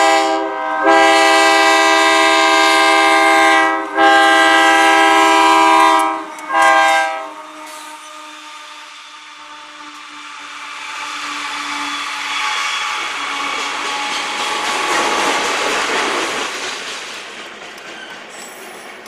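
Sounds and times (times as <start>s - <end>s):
freight train passing: 0.0s - 19.0s.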